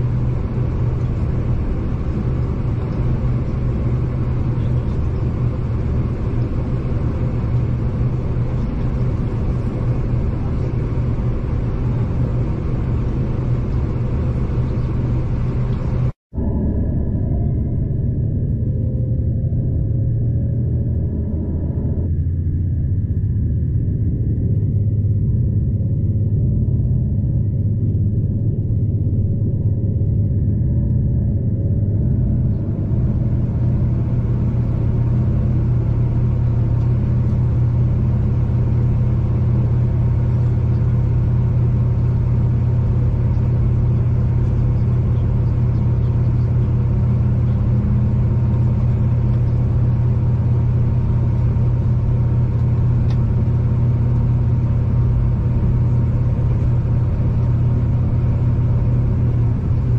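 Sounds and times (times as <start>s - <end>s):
train rumble with low hum: 0.0s - 59.9s.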